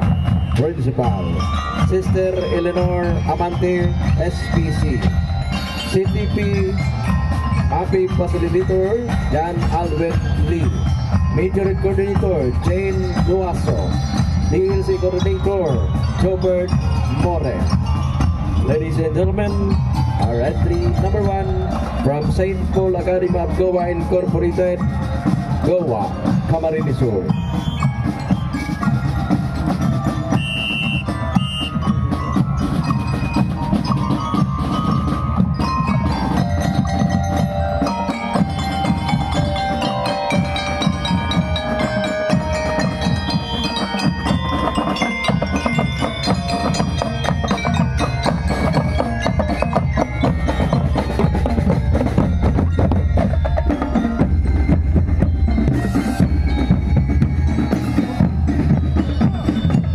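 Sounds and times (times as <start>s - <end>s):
bell lyres melody: 0.0s - 59.9s
drum and lyre band marching tune: 0.0s - 59.9s
snare and bass drums: 0.0s - 59.9s.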